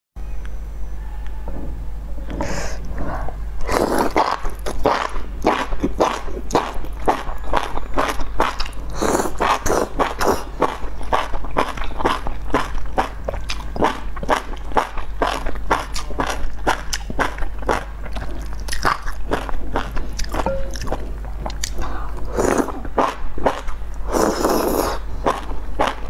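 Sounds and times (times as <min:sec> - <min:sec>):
low hum: 0:00.2 - 0:24.0
person slurping: 0:03.6 - 0:26.0
wet chewing: 0:03.6 - 0:26.0.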